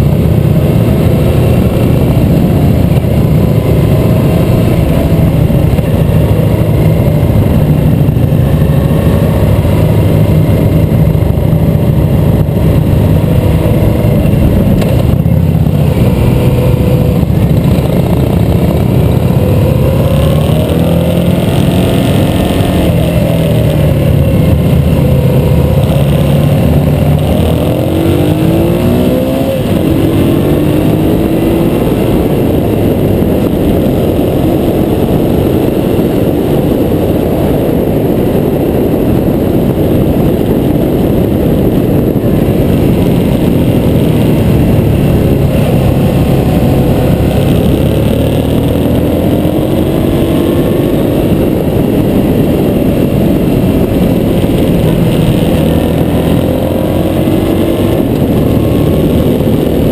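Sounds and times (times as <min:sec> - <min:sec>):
motorcycle engines running: 0:00.0 - 0:59.9.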